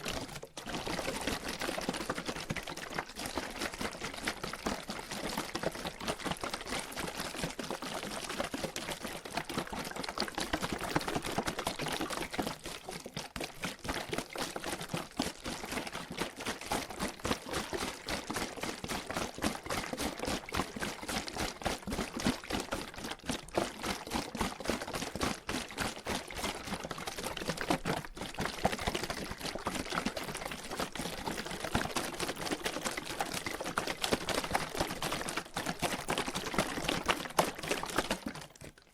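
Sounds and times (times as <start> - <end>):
water sloshing in shaken bottle: 0.0 - 38.9.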